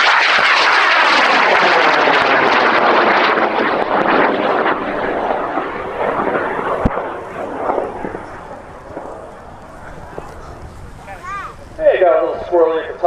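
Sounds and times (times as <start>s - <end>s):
rocket motor rushing roar: 0.0s - 12.3s.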